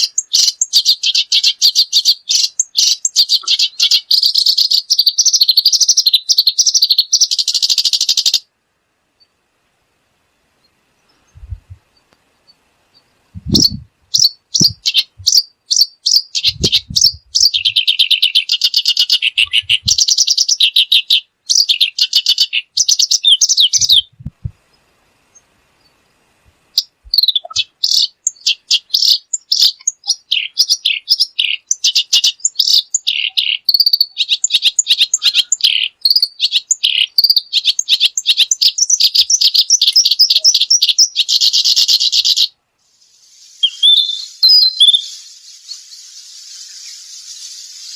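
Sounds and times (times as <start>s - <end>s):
songbird trilling: 0.0s - 8.5s, 13.0s - 24.2s, 26.8s - 42.5s, 43.3s - 47.9s.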